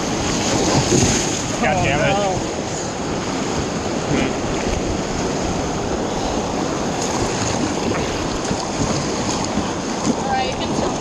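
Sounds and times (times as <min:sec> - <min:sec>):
river water rushing: 0:00.0 - 0:11.0
wind buffeting microphone: 0:00.0 - 0:11.0.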